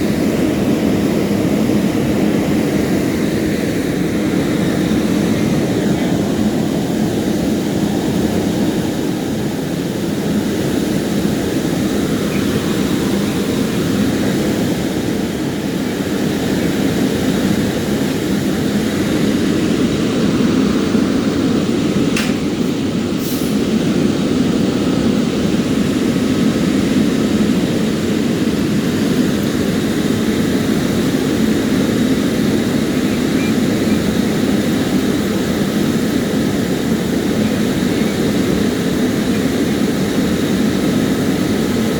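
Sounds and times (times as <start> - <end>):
engine droning: 0.0 - 41.9.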